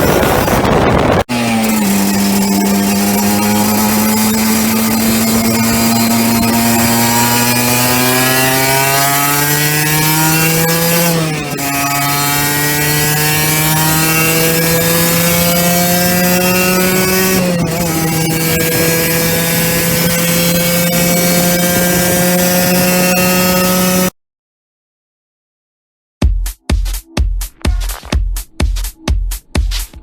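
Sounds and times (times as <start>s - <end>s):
two-stroke motorcycle engine buzzing: 0.0s - 24.2s.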